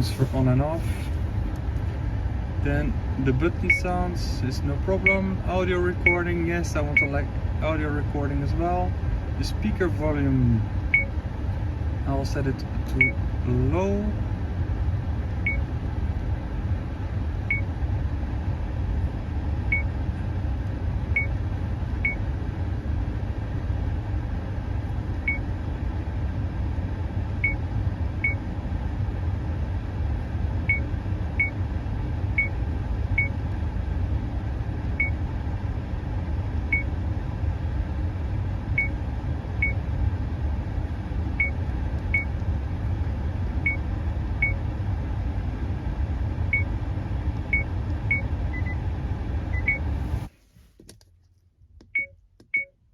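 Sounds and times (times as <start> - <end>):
steady low rumble: 0.0 - 52.9.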